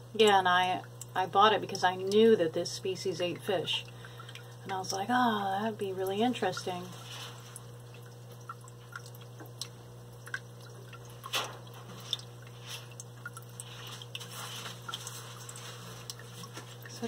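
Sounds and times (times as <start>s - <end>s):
steady low hum: 0.0s - 17.0s
water dripping and trickling: 0.0s - 17.0s.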